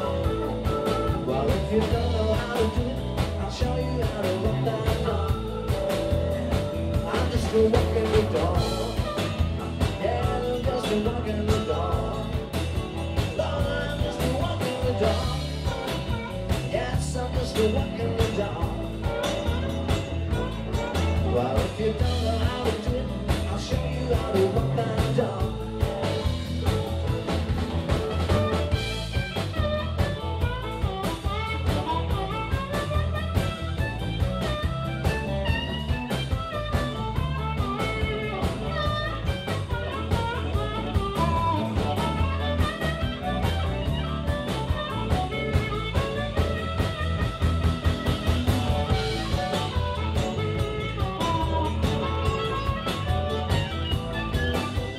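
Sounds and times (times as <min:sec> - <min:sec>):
drum kit steady beat: 0:00.0 - 0:54.9
electric guitar: 0:00.0 - 0:54.9
harmonica solo with bending notes: 0:00.0 - 0:54.9
keyboard: 0:00.0 - 0:54.9.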